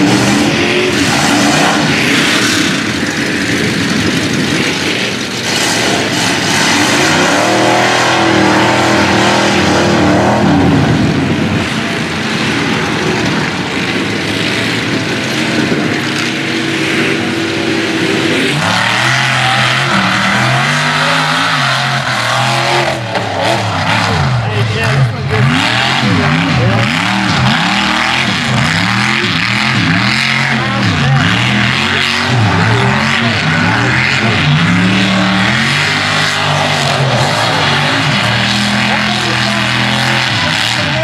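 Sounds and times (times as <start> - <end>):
truck engines revving: 0.0 - 41.0.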